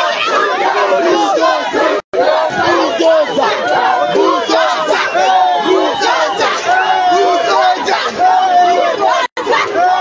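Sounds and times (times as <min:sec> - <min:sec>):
large crowd shouting: 0:00.0 - 0:10.0.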